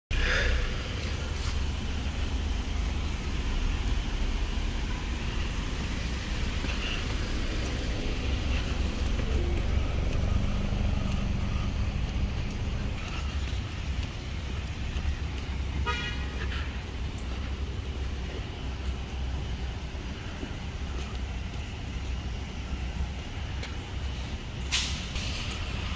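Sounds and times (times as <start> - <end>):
cars moving slowly: 0.1 - 25.9
low traffic rumble: 0.1 - 25.9.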